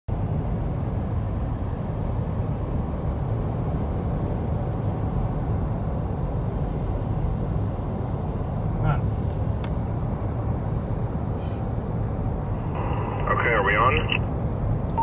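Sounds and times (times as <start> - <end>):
car road and wind noise: 0.1 - 15.0.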